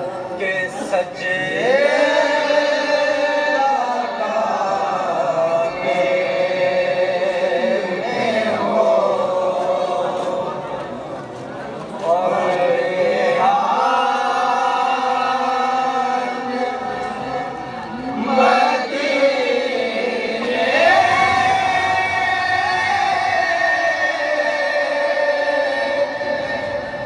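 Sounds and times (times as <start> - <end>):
men chanting in unison: 0.7 - 10.9, 11.9 - 27.0.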